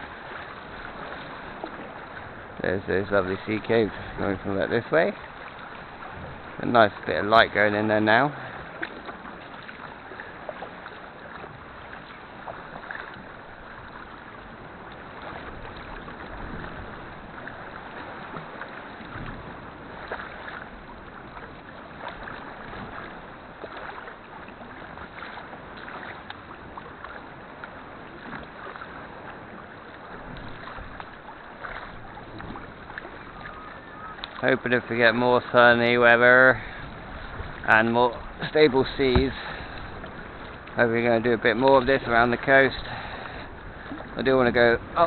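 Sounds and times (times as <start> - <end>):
paddle splashing: 0.0 - 45.0
water lapping along hull: 0.0 - 45.0.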